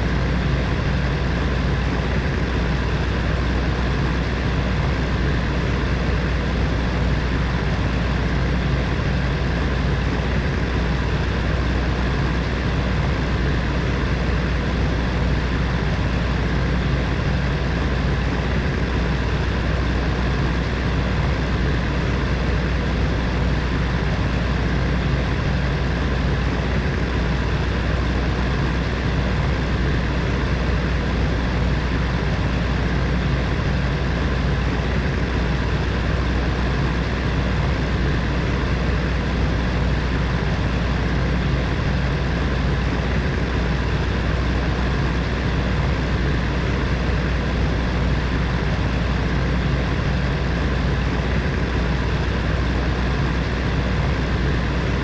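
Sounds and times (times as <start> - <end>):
deep constant hum: 0.0 - 55.0.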